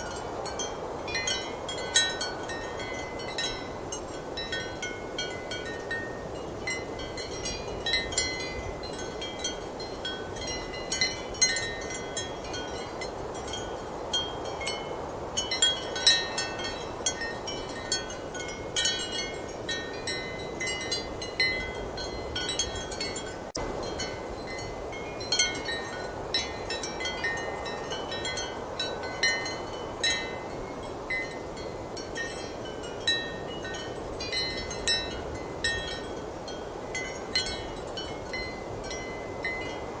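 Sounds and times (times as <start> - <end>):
ceramic wind chimes clinking: 0.0 - 40.0.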